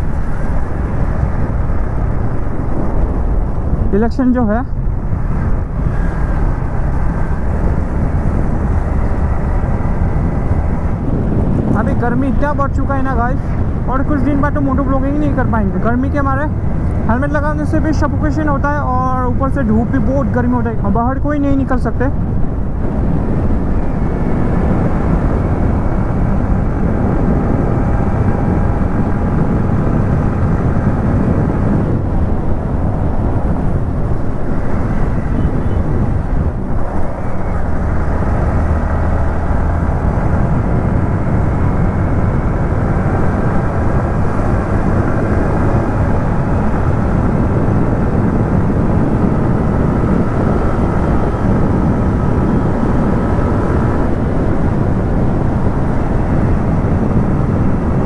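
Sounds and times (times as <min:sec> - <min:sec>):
wind rushing: 0:00.0 - 0:58.0.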